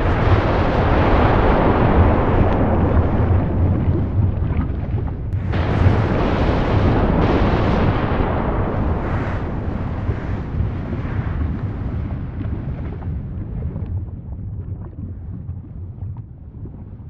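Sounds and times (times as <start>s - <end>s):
volcano eruption rumbling roar: 0.0s - 16.7s.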